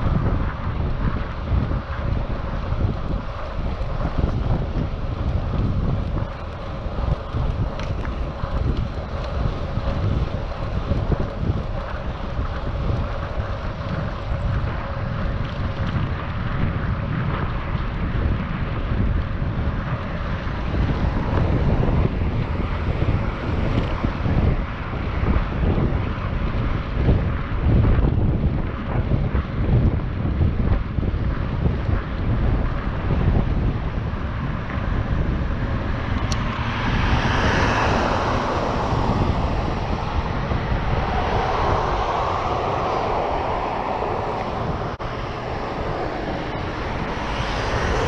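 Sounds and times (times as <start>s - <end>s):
bicycle road noise: 0.0s - 48.0s
wind buffeting microphone: 0.0s - 48.0s.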